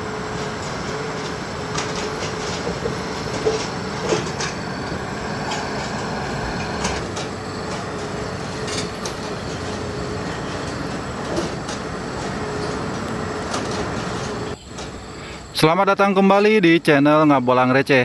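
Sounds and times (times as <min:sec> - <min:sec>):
machine mechanical rumble: 0:00.0 - 0:15.7.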